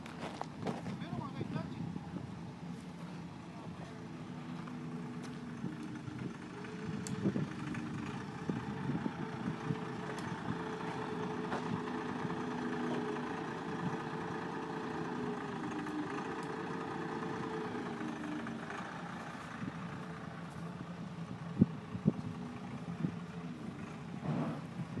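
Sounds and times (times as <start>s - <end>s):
heavy equipment engine idling: 0.0s - 25.0s.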